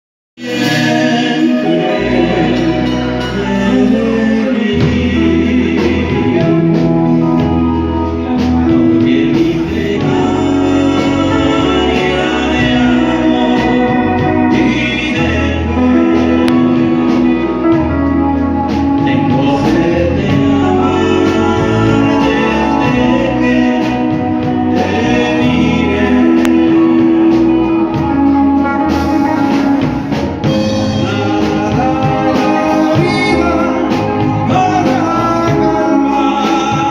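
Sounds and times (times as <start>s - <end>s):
song with singing and backing: 0.4s - 36.9s
steady bass line: 0.4s - 36.9s.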